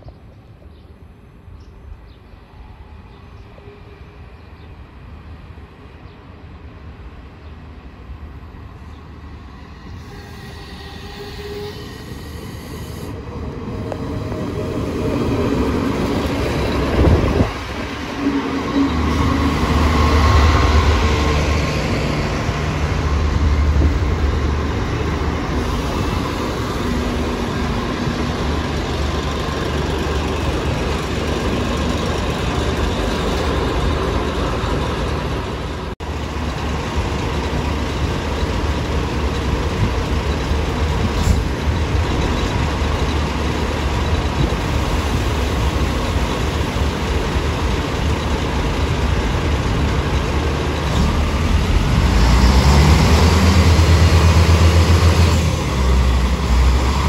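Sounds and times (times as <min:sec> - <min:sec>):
diesel train rumbling: 0:00.0 - 0:57.0.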